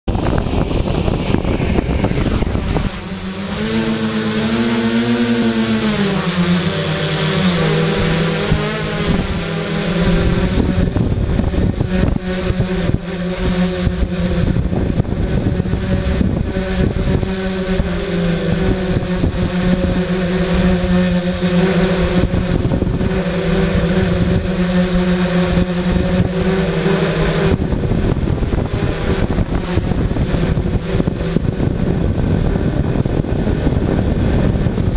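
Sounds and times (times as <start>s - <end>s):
air rushing over microphone: 0.1s - 6.4s, 7.2s - 34.9s
drone motors buzzing: 0.1s - 34.9s.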